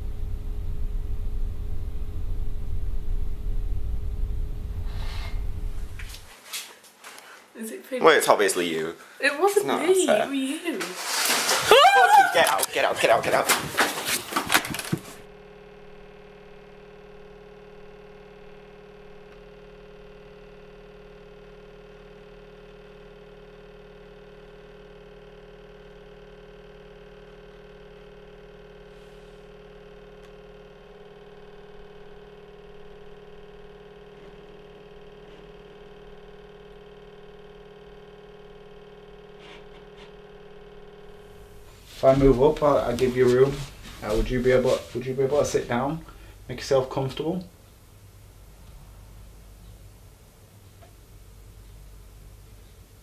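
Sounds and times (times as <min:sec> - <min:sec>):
steady electrical hum: 0:00.0 - 0:53.0.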